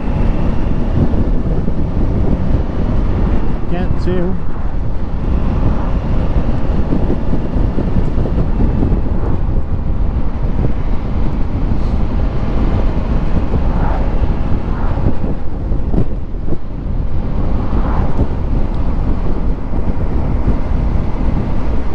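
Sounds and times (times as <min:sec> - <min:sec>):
road noise: 0:00.0 - 0:21.9
wind noise on microphone: 0:00.0 - 0:21.9.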